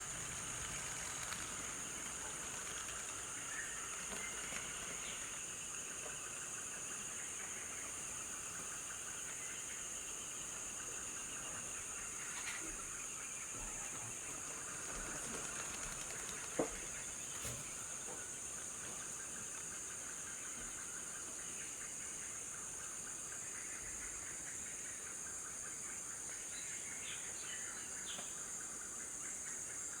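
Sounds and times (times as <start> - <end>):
shrill insect chorus: 0.0 - 30.0.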